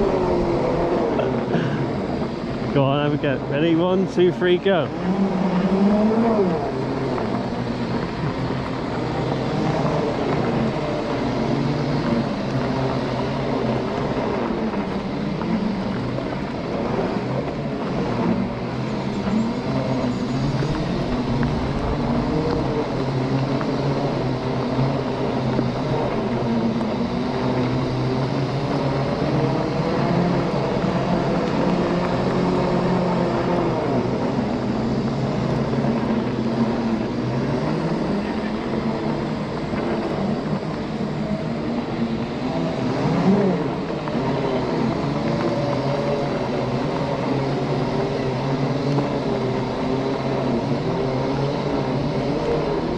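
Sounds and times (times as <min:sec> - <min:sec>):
electric motors whining: 0:00.0 - 0:52.9
wind rumble on microphone: 0:00.0 - 0:52.9.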